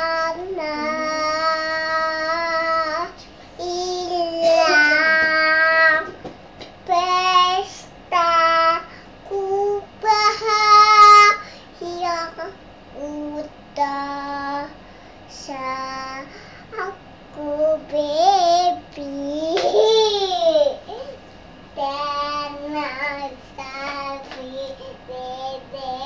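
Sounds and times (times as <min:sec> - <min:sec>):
girl singing unaccompanied: 0:00.0 - 0:06.2, 0:06.8 - 0:20.6, 0:21.8 - 0:26.0.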